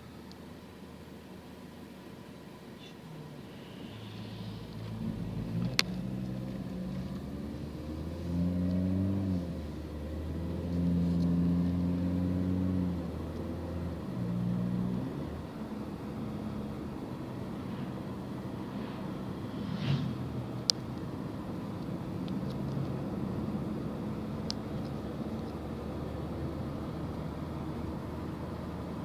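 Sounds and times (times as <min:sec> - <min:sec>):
car engine accelerating: 0:03.3 - 0:29.0.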